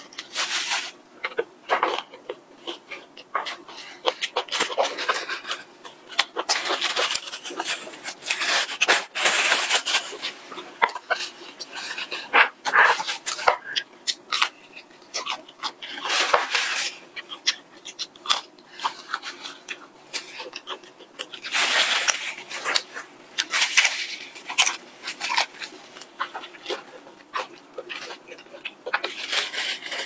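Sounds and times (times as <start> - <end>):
crunching fried chicken: 0.0 - 30.0.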